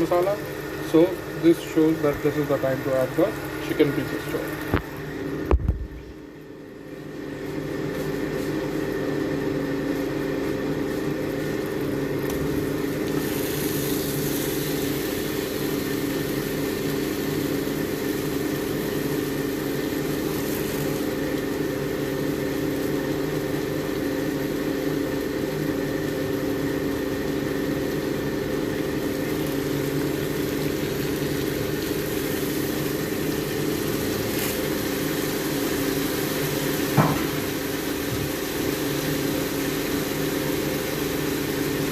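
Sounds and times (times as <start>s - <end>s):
motor hum: 0.0s - 41.9s.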